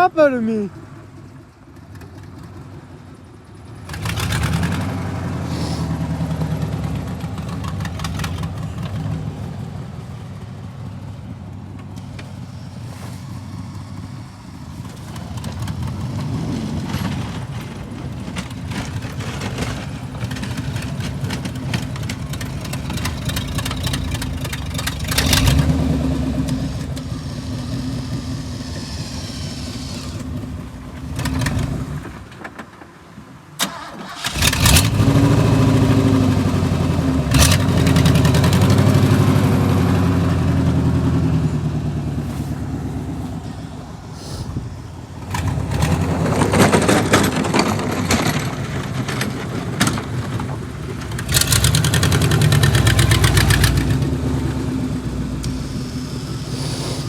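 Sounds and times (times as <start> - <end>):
truck engine running under load: 0.7 - 57.0.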